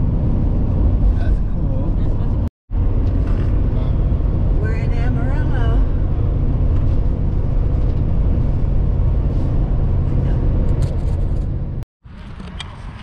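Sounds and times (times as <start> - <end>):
vehicle rumble on road: 0.0 - 13.0.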